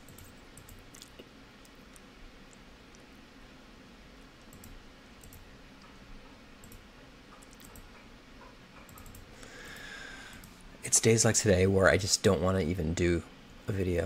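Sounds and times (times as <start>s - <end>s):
low room noise: 0.0s - 14.0s.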